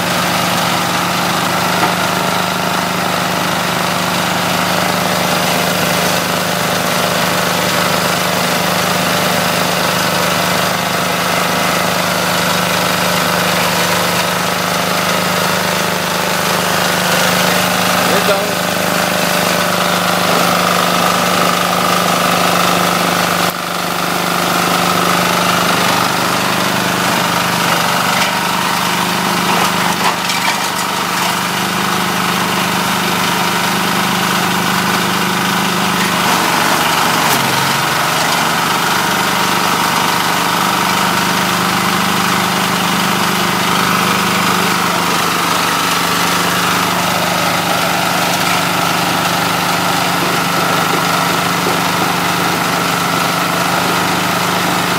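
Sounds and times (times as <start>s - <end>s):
shredder chopping palm fronds: 0.0s - 54.9s
small engine running: 0.0s - 54.9s.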